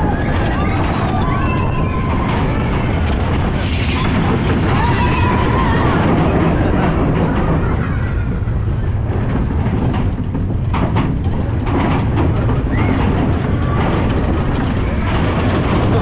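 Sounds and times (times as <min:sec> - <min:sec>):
roller coaster rumbling on track: 0:00.0 - 0:16.0
roller coaster track clacks: 0:00.0 - 0:16.0.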